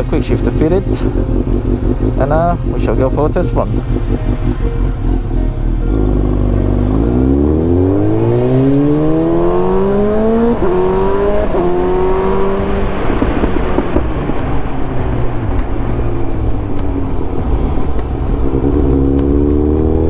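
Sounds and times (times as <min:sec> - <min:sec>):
motorcycle accelerating: 0:00.0 - 0:20.0.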